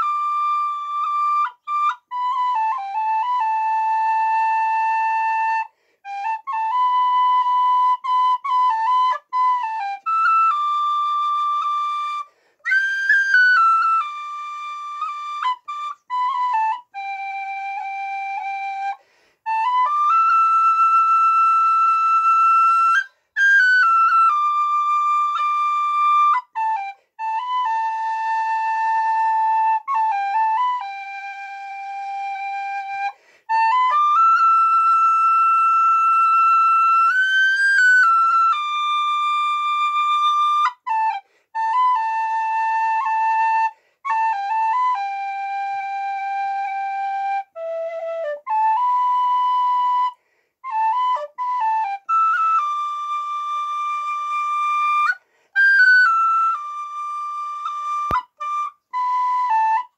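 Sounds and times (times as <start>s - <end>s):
tin whistle slow melody: 0.0s - 59.9s.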